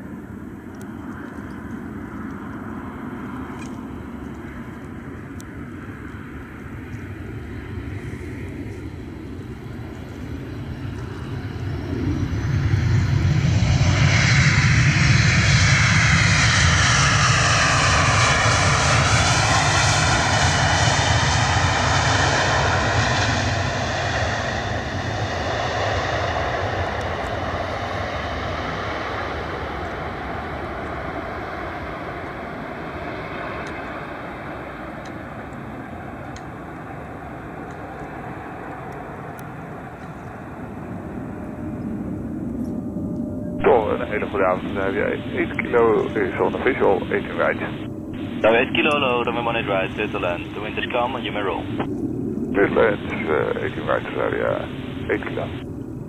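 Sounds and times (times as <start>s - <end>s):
jet engines in reverse thrust: 0.0s - 56.0s.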